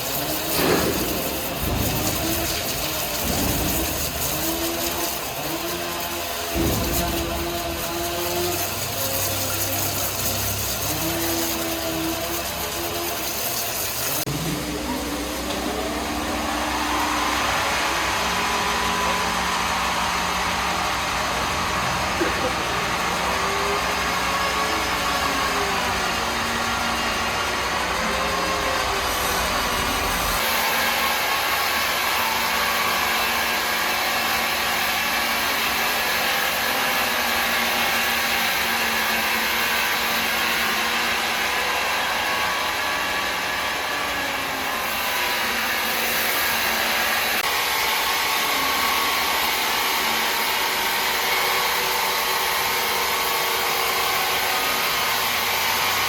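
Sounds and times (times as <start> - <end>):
woodworking machinery whirring: 0.0 - 56.0.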